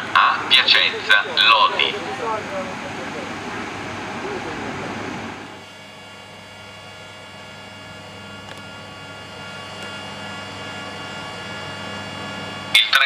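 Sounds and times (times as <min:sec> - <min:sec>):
electric locomotive humming and whining: 0:00.0 - 0:13.0.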